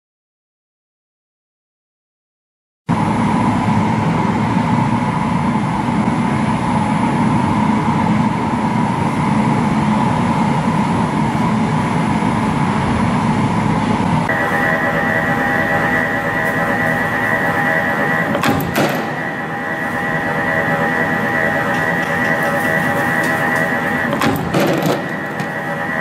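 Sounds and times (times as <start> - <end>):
spring coiling machine running: 2.9 - 26.0.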